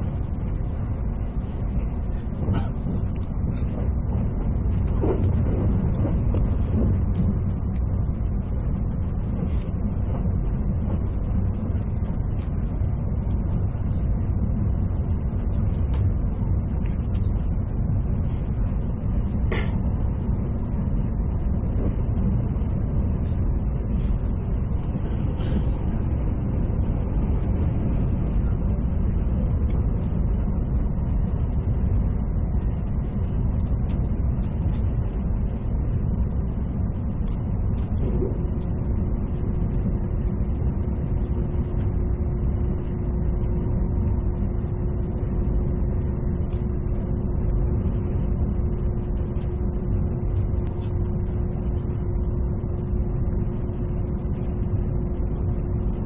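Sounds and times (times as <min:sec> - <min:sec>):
steady hum: 0:00.0 - 0:56.0
train wheels rumbling: 0:00.0 - 0:56.0.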